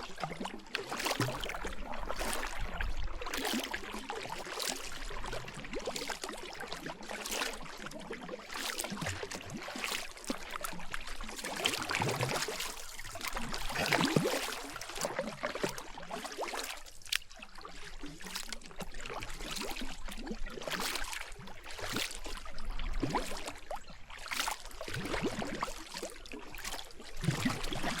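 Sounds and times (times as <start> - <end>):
paddle splashing in river water: 0.0 - 28.0.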